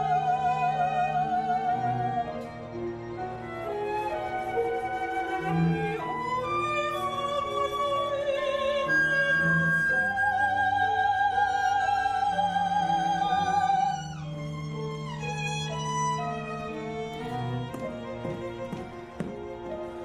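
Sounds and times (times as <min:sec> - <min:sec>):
instrumental accompaniment: 0:00.0 - 0:20.0.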